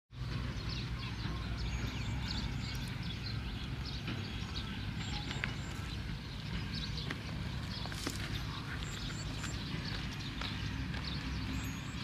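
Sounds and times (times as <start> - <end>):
small birds chirping: 0.2 - 12.0
steady low rumble: 0.2 - 12.0.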